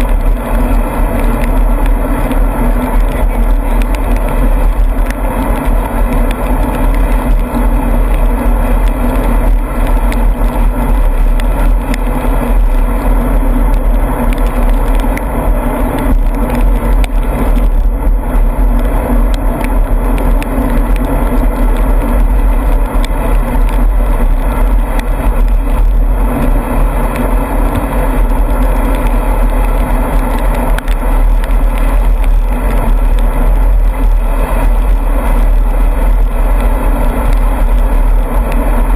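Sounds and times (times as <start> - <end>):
vehicle running at road speed: 0.0 - 38.9
wind rumble on microphone: 0.0 - 38.9.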